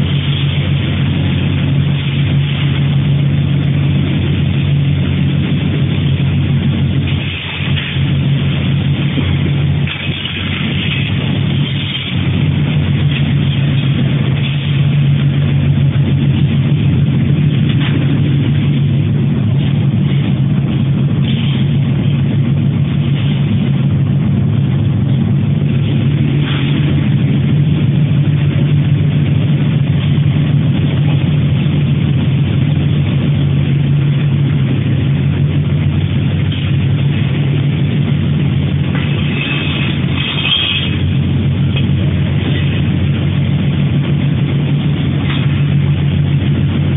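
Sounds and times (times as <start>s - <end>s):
higher machine clatter: 0.0s - 33.4s, 35.5s - 46.9s
loud low machine hum: 0.0s - 46.9s.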